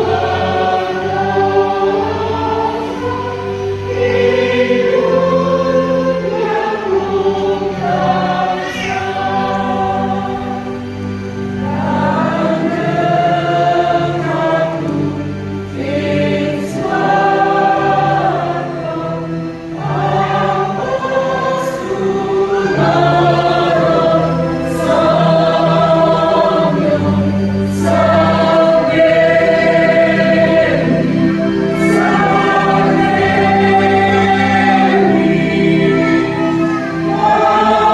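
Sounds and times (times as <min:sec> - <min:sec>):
choir singing a hymn: 0:00.0 - 0:37.9.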